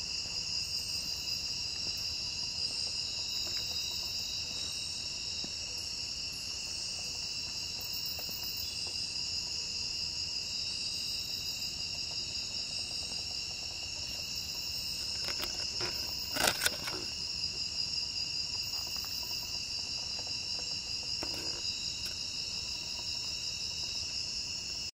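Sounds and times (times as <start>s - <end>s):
night insects chorus: 0.0s - 24.9s.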